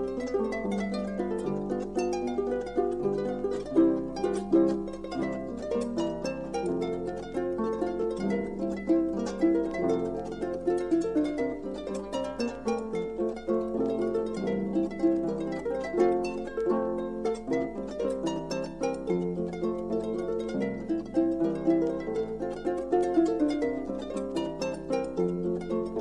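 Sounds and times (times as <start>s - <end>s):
harp playing folk dance tune: 0.0s - 26.0s.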